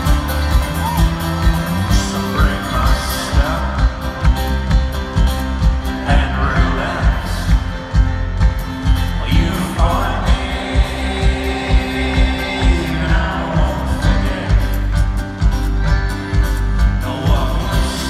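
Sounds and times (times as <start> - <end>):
live folk rock band with singing: 0.0 - 18.0.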